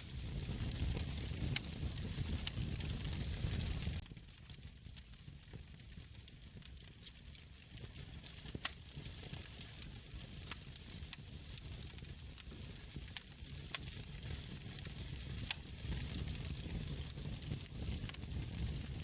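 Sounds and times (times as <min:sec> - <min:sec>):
burning logs popping: 0:00.0 - 0:19.0
wood fire crackling: 0:00.0 - 0:19.0.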